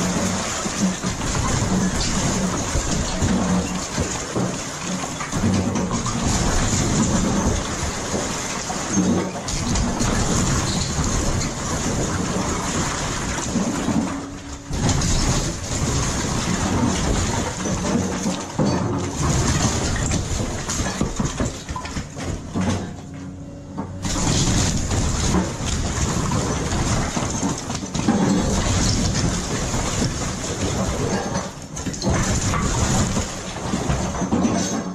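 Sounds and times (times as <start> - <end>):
wood breaking and debris falling: 0.0 - 23.2, 23.8 - 34.9
heavy machinery engine running: 0.0 - 34.4.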